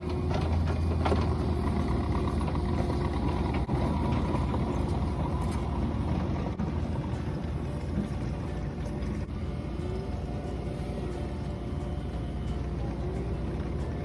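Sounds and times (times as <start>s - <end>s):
small diesel engine running: 0.0s - 14.0s.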